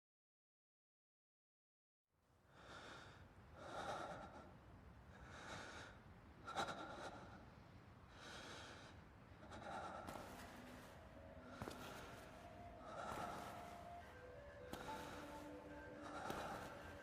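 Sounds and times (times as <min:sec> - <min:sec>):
heavy breathing: 0:02.6 - 0:17.0.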